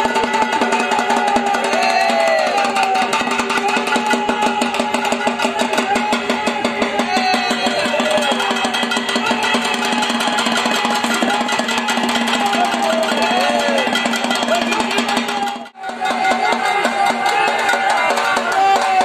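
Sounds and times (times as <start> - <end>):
fast barrel drumming: 0.0 - 19.0.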